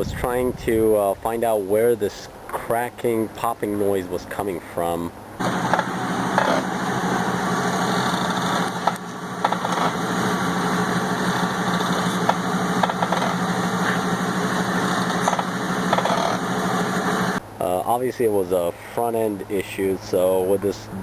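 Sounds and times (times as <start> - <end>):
truck engine hum: 0.0 - 21.0.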